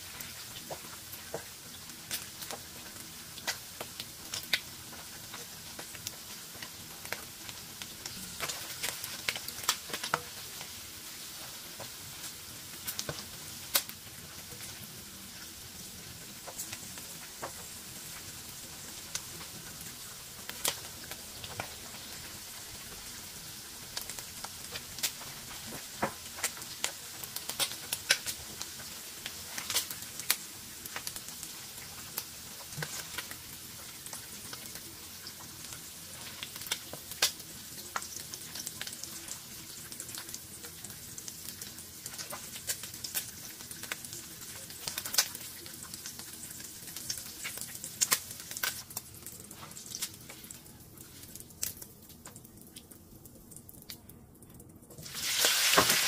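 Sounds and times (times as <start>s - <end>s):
gizzards sizzling in hot oil: 0.0s - 54.1s, 55.0s - 56.0s.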